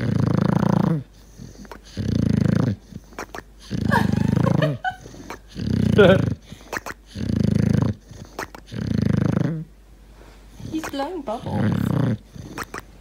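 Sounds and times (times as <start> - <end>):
dog snoring: 0.0 - 9.7, 10.5 - 13.0.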